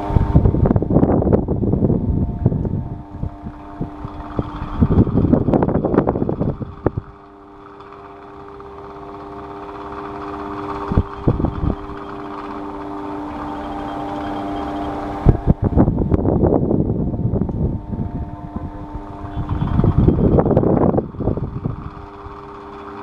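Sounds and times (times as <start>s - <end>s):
electric fan motor hum: 0.0s - 23.0s
gusty rumbling: 0.0s - 23.0s.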